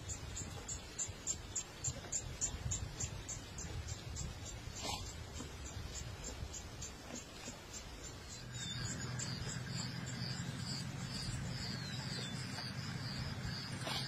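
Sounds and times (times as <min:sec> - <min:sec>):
insects chirping: 0:00.0 - 0:14.0
steady low hum: 0:00.0 - 0:14.0.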